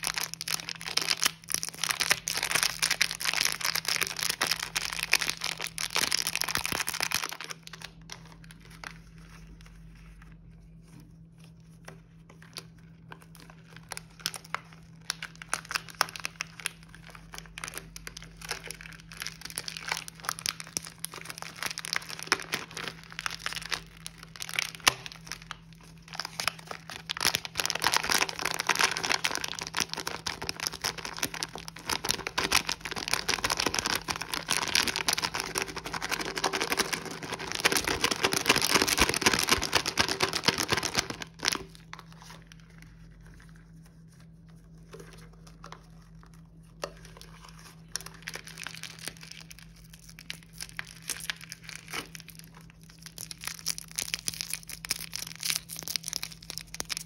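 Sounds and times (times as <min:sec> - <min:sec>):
candy wrappers crinkling: 0:00.0 - 0:57.0.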